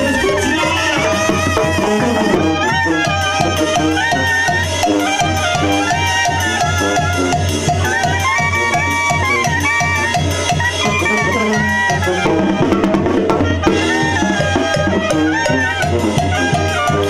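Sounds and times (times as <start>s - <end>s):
bass drum snare and cymbal: 0.0s - 17.0s
clarinets and brass melody: 0.0s - 17.0s
tuba bass line: 0.0s - 17.0s.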